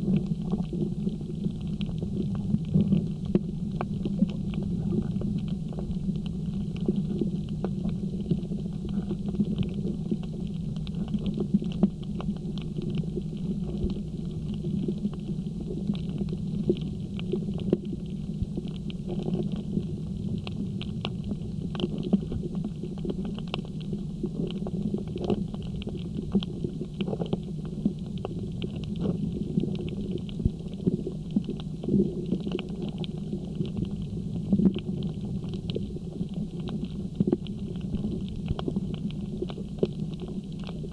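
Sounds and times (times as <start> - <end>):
muffled underwater rumble: 0.0 - 40.9
reef clicks and crackles: 0.0 - 40.9.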